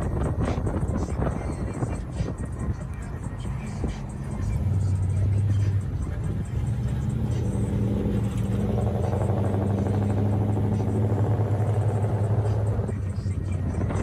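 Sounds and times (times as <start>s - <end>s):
car engine droning: 0.0s - 14.0s
road noise: 0.0s - 14.0s.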